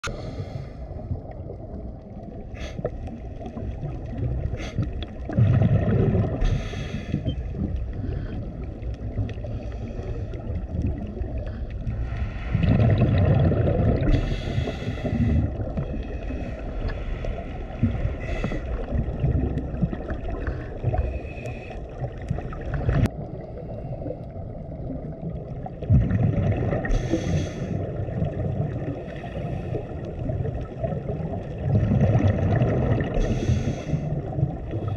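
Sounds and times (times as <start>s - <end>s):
underwater low rumble: 0.0s - 34.9s.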